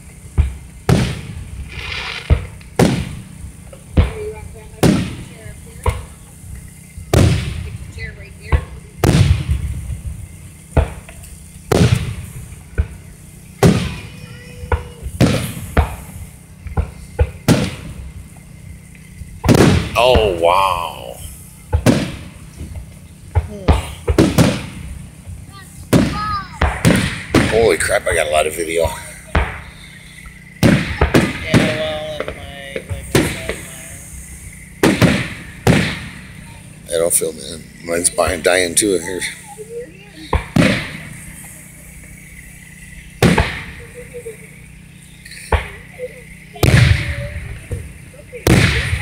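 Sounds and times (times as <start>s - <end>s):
fireworks bursting with echo: 0.0s - 49.0s.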